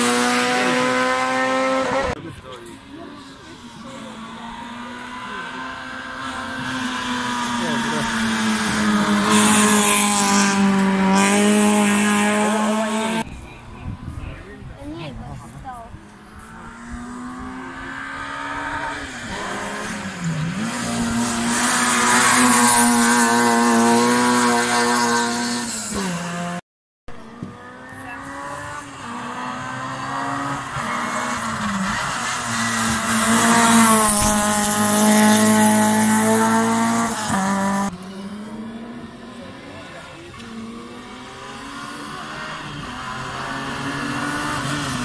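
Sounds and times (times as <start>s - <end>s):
racing car passing at high revs: 0.0s - 26.6s, 27.2s - 45.0s.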